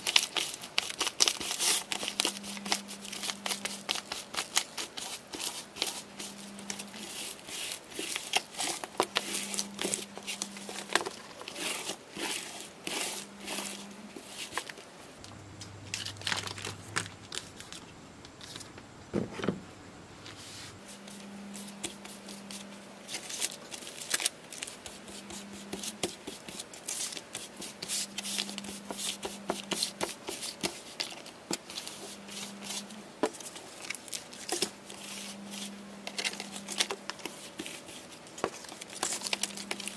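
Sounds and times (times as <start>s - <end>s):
crinkling and scraping: 0.0s - 19.6s, 20.2s - 39.9s.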